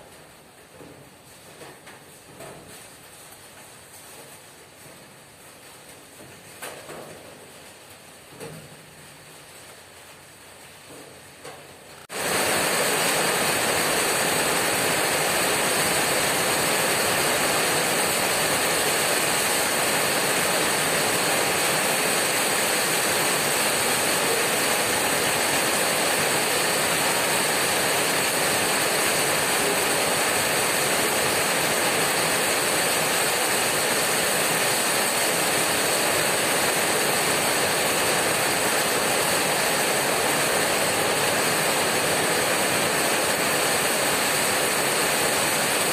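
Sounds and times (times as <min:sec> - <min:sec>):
heavy rain on a tin roof: 0:00.0 - 0:45.9.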